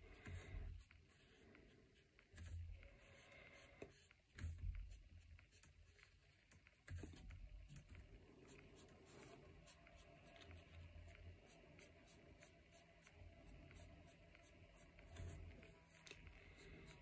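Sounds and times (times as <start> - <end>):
brush dabbing on paper: 0.0 - 17.0.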